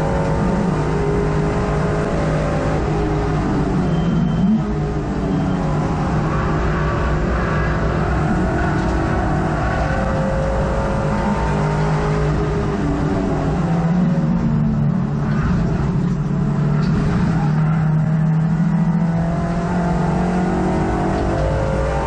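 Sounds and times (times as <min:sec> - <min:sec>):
race car engine from inside cabin: 0:00.0 - 0:22.0
road and wind noise: 0:00.0 - 0:22.0.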